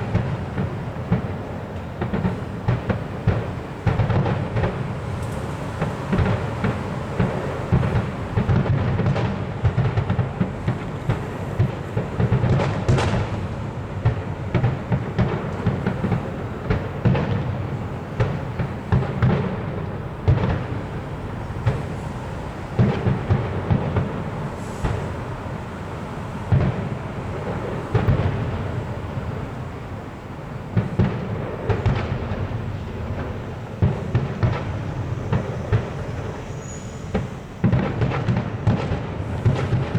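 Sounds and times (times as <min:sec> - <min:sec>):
fireworks bangs and booms: 0:00.0 - 0:39.9
sharp firework cracks: 0:00.0 - 0:39.9.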